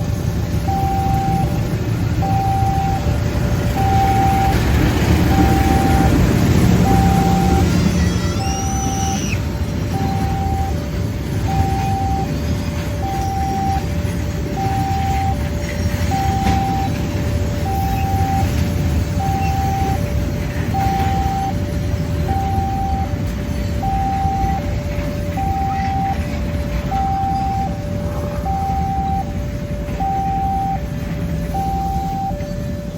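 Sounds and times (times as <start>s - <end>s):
level crossing two-tone alarm: 0.0s - 32.9s
low rumble of vehicles: 0.0s - 32.9s.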